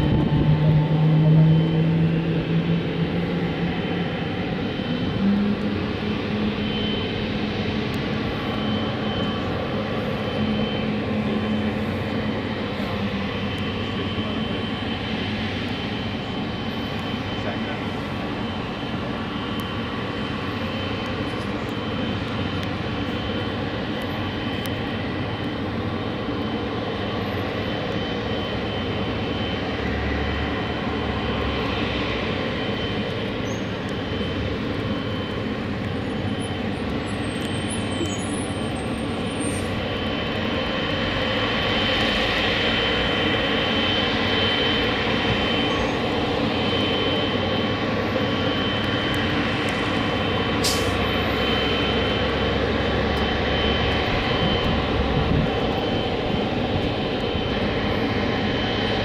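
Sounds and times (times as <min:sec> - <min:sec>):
jet engines whining at taxi power: 0:00.0 - 0:59.0.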